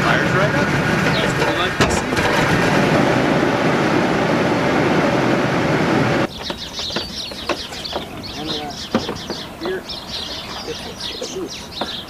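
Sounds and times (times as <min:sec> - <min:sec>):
birds chirping: 0:00.0 - 0:02.2, 0:04.4 - 0:12.0
truck engine running: 0:00.0 - 0:09.9.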